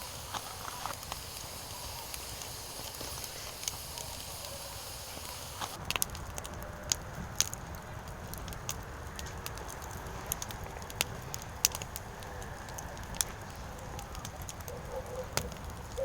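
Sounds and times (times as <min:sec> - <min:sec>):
fire pops and snaps: 0:00.0 - 0:16.0
firewood crackling: 0:00.0 - 0:16.0.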